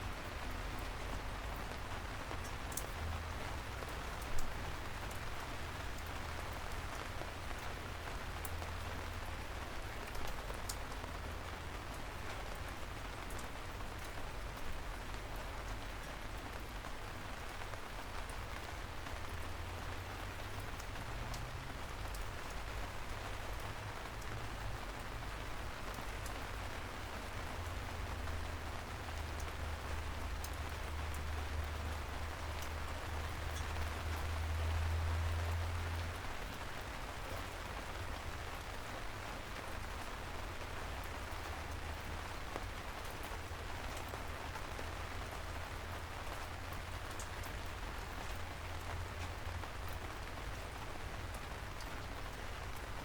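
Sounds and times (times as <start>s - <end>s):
rain drops ticking: 0.0s - 53.0s
steady rain hiss: 0.0s - 53.0s.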